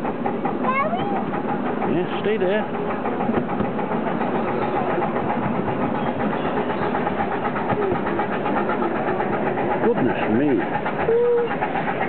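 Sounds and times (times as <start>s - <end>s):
miniature train running on track: 0.0s - 12.0s.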